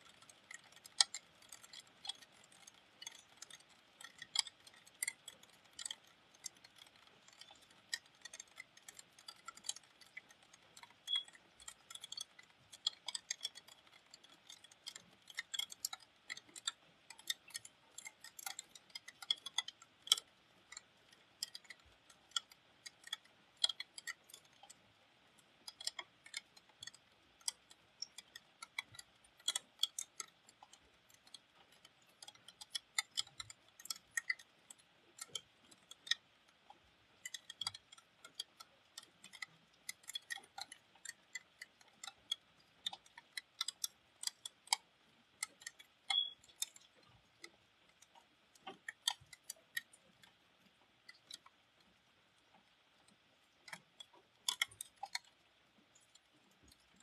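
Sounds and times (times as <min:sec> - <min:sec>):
raindrops ticking on metal casing: 0:00.0 - 0:53.0.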